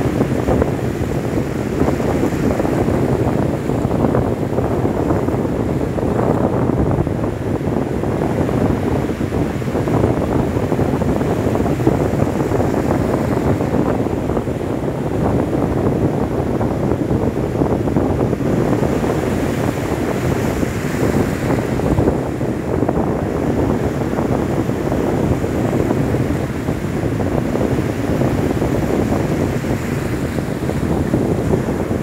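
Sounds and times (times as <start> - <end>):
waves breaking on a beach: 0.0 - 32.0
wind buffeting the microphone: 0.0 - 32.0.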